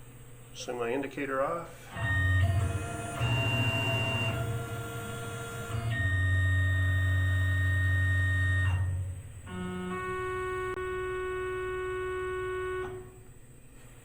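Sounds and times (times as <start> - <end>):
electric motor whine: 1.8 - 13.2.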